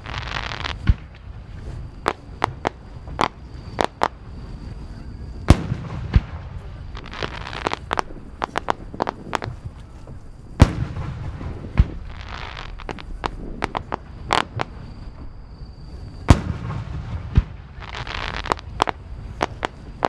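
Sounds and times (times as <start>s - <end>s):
fireworks crackling pops: 0.0s - 15.4s, 16.0s - 20.0s
fireworks booming: 0.0s - 20.0s
lighter fireworks bangs: 0.0s - 20.0s.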